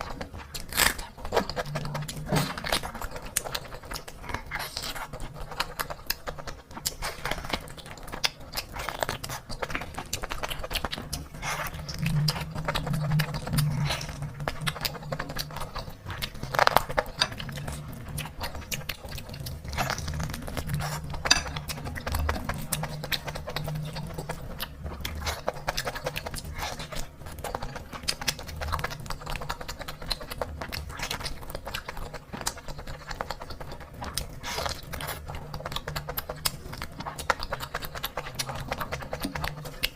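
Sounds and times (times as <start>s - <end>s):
chewing with clicks and crunches: 0.0s - 39.9s.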